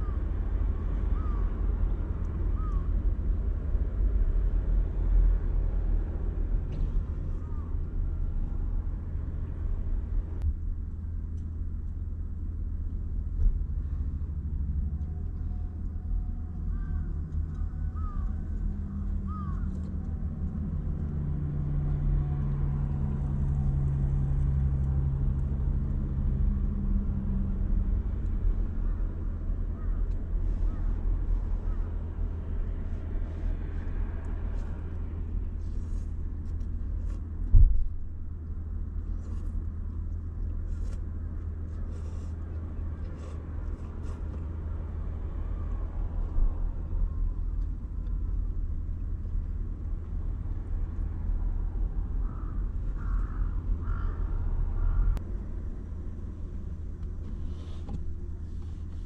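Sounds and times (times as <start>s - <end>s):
low droning hum: 0.0s - 59.0s
vehicle rumble inside car: 0.0s - 59.0s.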